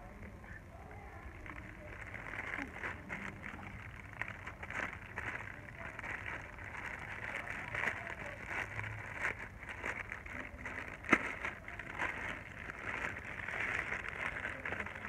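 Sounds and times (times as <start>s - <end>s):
plastic mailer bag crinkling: 1.4s - 15.0s.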